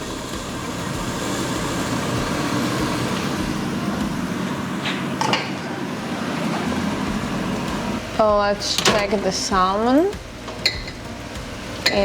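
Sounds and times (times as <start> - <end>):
air fryer fan whooshing: 0.0 - 12.0.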